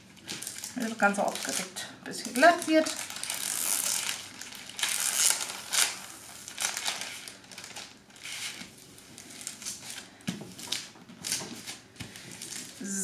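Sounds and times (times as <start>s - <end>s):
plastic film crinkling: 0.0s - 12.9s.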